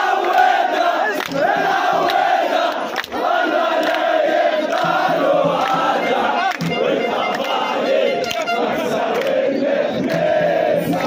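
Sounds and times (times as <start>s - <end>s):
crowd chanting: 0.0s - 11.0s.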